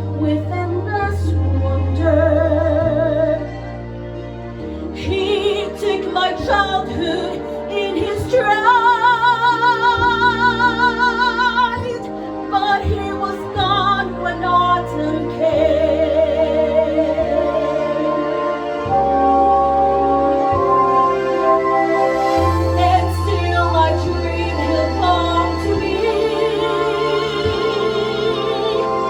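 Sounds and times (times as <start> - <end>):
accompaniment chords: 0.0 - 29.0
woman singing operatic ballad: 0.1 - 3.8, 4.9 - 19.0, 22.7 - 29.0.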